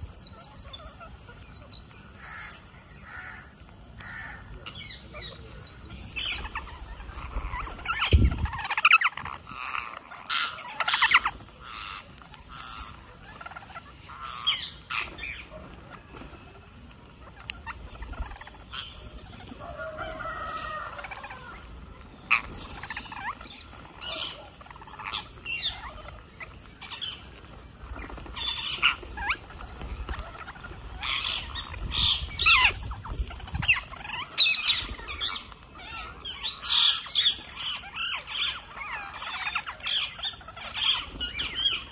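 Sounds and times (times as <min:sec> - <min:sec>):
parakeets squawking: 0:00.0 - 0:16.3, 0:17.2 - 0:41.9.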